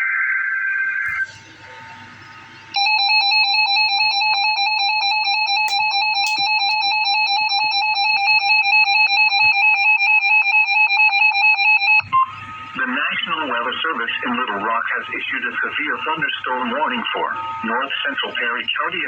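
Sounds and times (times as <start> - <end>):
loud two-tone alarm: 0.0 - 19.0.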